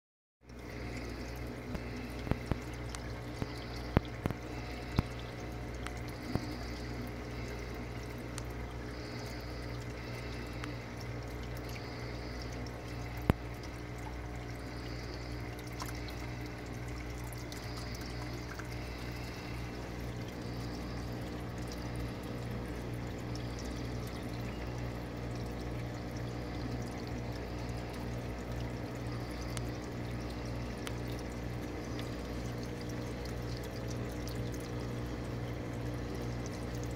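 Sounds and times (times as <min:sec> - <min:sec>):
steady low hum: 0:00.4 - 0:36.9
water pouring into aquarium sump: 0:00.5 - 0:36.9.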